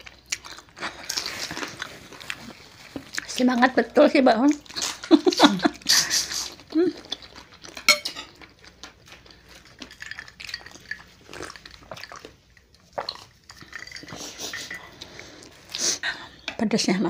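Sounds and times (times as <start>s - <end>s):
chewing and mouth smacks: 0.0s - 3.8s, 4.4s - 16.0s.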